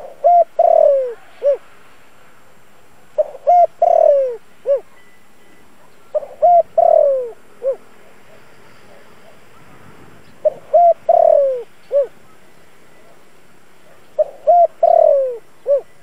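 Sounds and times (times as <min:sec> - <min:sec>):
dove cooing: 0:00.0 - 0:01.6, 0:03.2 - 0:05.0, 0:05.8 - 0:16.0.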